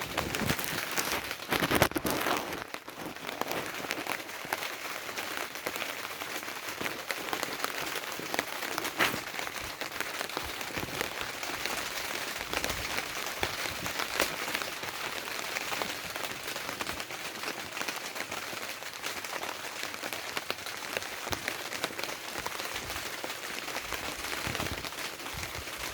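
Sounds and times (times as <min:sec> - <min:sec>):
rain pattering on tarpaulin: 0:00.0 - 0:25.9.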